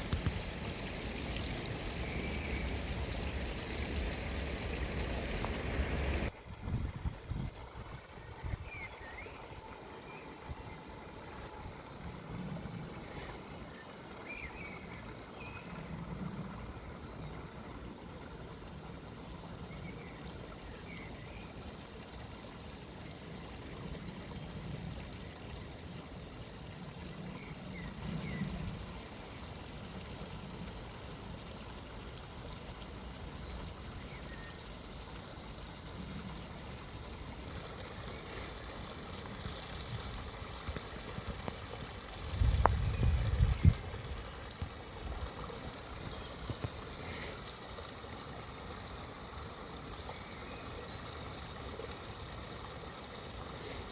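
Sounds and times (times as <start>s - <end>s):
stream running: 0.0s - 53.9s.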